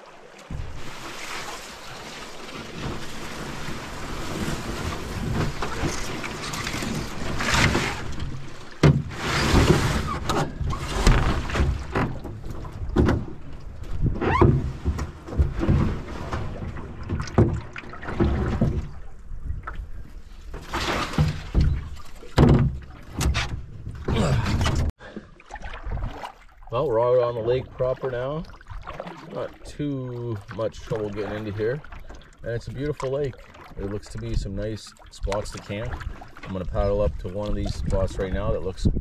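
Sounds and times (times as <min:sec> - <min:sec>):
paddle dipping in water: 0:00.0 - 0:38.4
canoe hull sliding through water: 0:00.0 - 0:39.0
water splashing against hull: 0:00.0 - 0:39.0.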